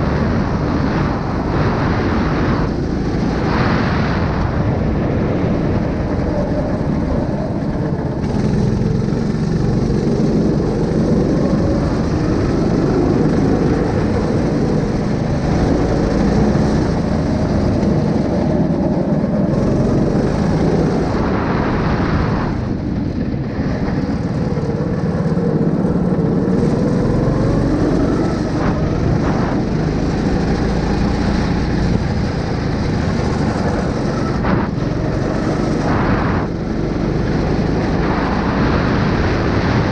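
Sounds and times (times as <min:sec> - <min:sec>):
engine running with low rumble: 0:00.0 - 0:39.9.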